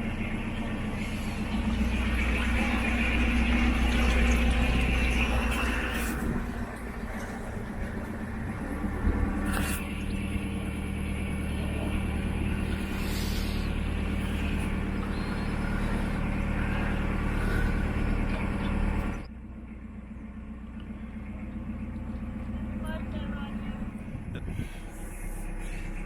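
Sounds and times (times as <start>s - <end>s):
boat diesel engine drone: 0.0s - 26.0s.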